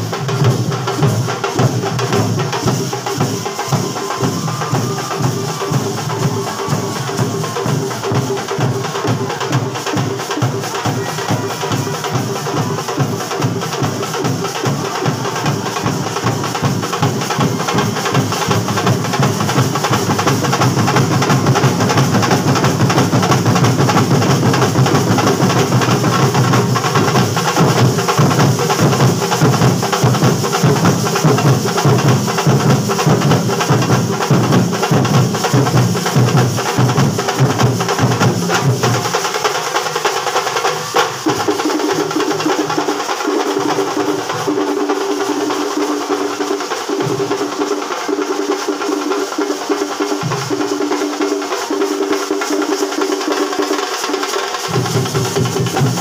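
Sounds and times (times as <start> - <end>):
fast driving drum rhythm: 0.0 - 56.0.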